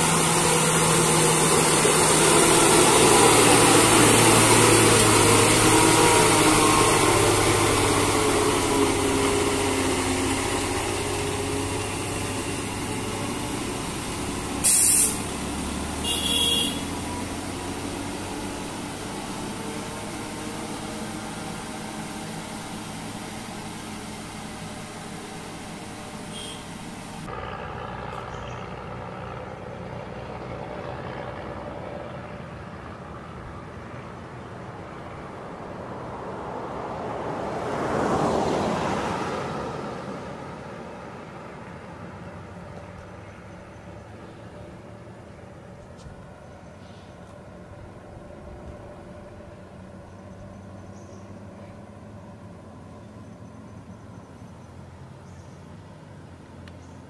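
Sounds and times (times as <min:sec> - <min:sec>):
heavy lorry engine: 0:00.0 - 0:57.0
traffic: 0:00.0 - 0:57.0.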